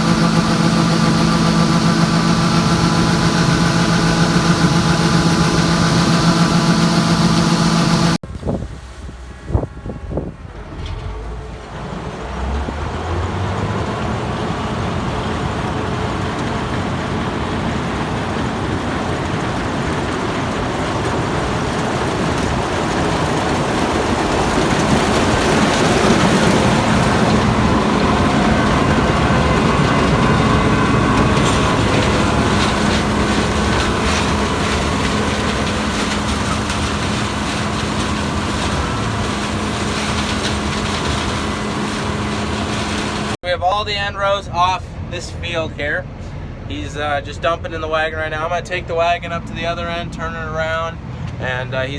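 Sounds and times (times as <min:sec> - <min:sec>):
farm machinery engines running: 0:00.0 - 0:51.9.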